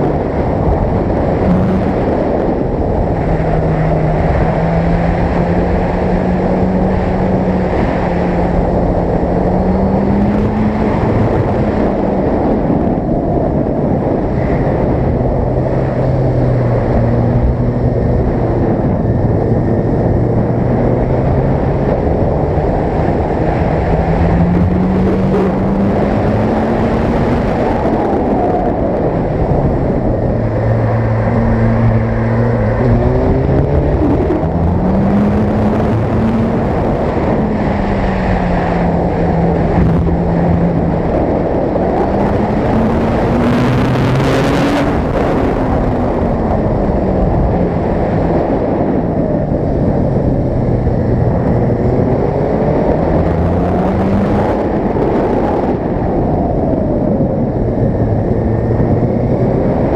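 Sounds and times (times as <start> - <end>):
motorcycle engine revving: 0.0 - 56.2
wind and road noise: 0.0 - 59.9.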